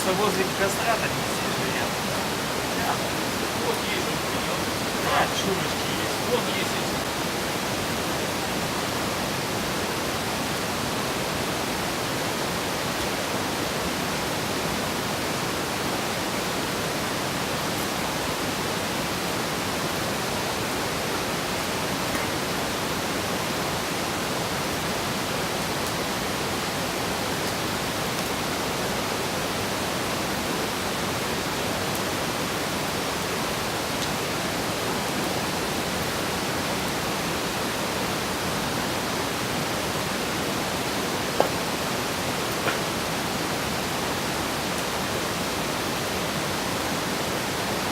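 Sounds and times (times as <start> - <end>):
steady broadband rushing noise: 0.0 - 47.9.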